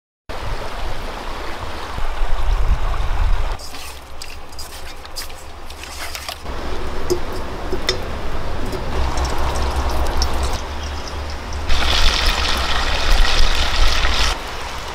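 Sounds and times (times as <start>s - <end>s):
stream running over rocks: 0.3s - 14.9s.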